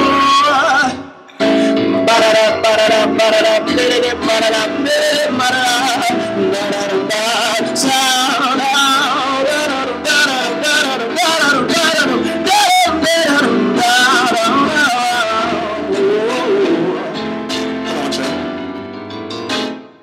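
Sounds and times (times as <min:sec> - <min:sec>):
instrumental accompaniment: 0:00.0 - 0:20.0
man singing ad-lib runs: 0:01.9 - 0:18.5.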